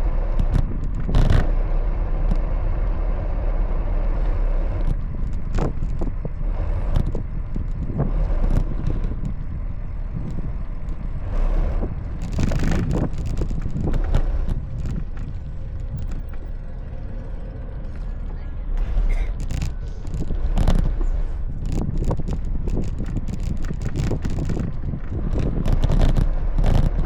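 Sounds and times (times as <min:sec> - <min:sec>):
wind and road noise: 0:00.0 - 0:27.0
bicycle clicks and rattles: 0:00.3 - 0:01.6, 0:04.8 - 0:18.3, 0:19.1 - 0:27.0.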